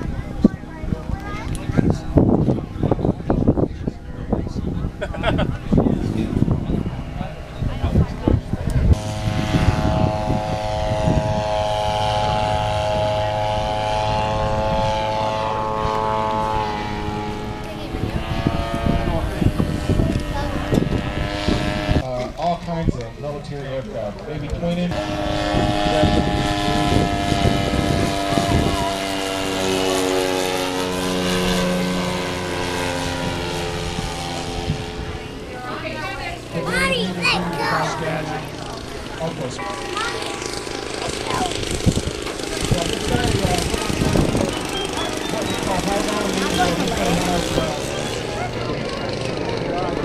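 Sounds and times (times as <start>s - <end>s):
model plane propeller engine droning: 0.0s - 22.1s, 24.4s - 50.0s.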